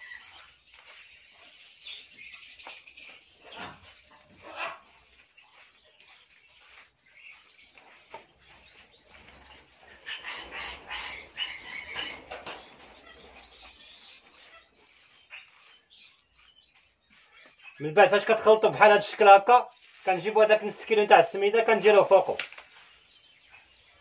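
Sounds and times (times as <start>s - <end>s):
hands rubbing gritty food: 0.0s - 24.0s
small birds chirping: 0.0s - 24.0s.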